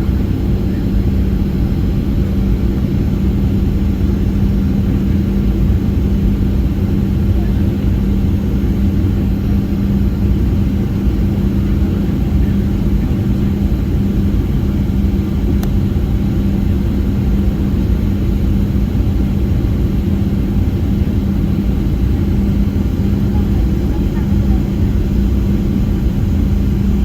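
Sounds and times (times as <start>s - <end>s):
engine and airflow rumble: 0.0s - 27.0s
steady cabin hum: 0.0s - 27.0s.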